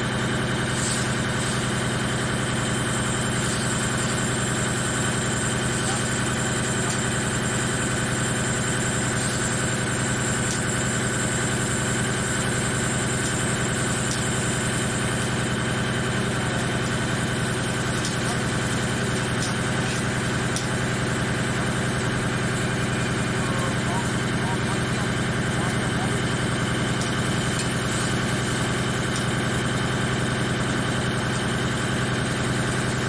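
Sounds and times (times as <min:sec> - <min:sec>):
lathe machine hum with high tones: 0:00.0 - 0:33.0.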